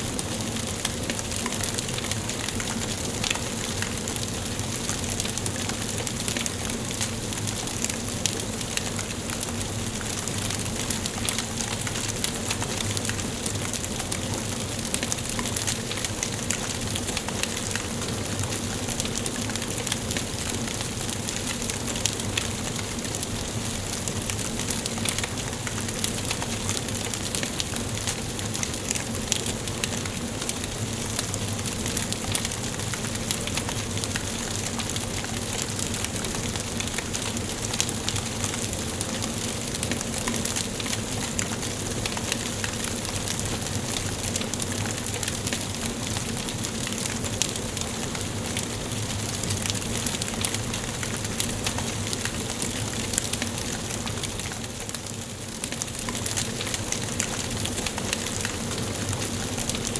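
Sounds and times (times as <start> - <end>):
fire crackles and pops: 0.0 - 59.9
wood fire hissing: 0.0 - 59.9.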